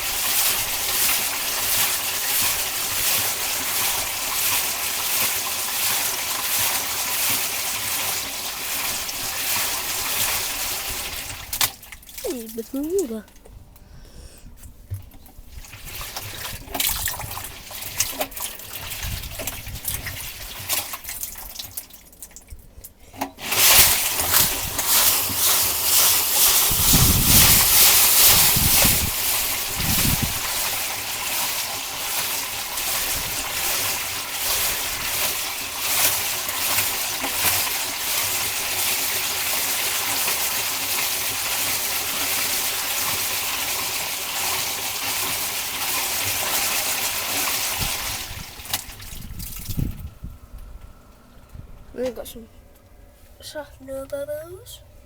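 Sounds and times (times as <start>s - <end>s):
tap water running: 0.0s - 13.4s, 14.9s - 22.5s, 23.2s - 50.1s.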